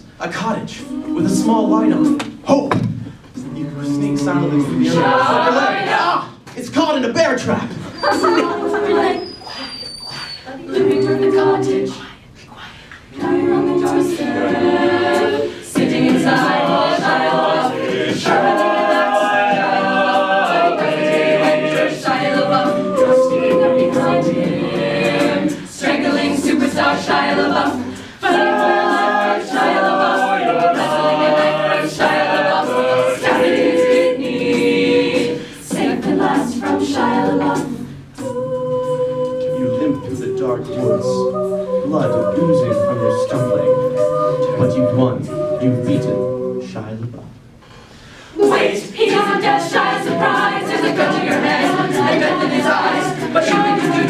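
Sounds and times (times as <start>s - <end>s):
choir singing in harmony: 0.0s - 2.6s, 3.3s - 6.4s, 7.8s - 54.0s.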